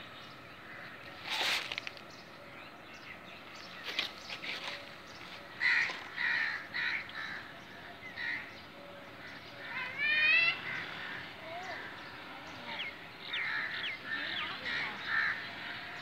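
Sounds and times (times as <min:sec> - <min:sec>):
bird calls: 0:00.0 - 0:16.0.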